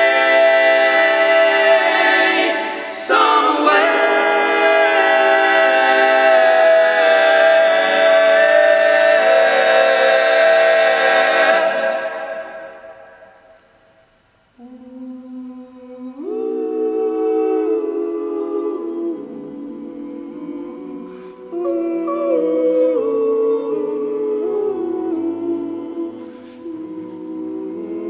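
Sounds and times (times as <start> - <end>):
male quartet singing a cappella: 0.0 - 13.4, 14.6 - 28.0.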